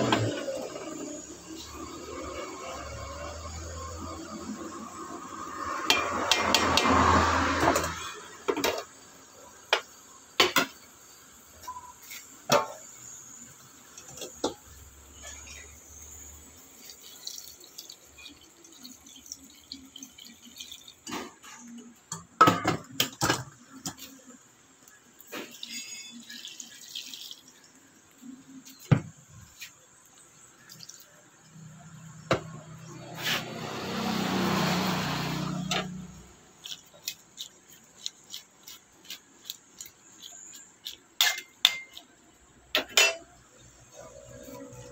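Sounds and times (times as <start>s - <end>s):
water pouring into a pot: 0.0s - 10.0s, 10.6s - 42.7s.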